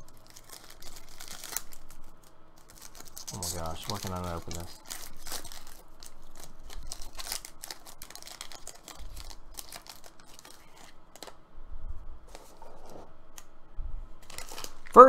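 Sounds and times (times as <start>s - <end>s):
foil wrapper crinkling and tearing: 0.0s - 11.4s, 14.2s - 15.0s.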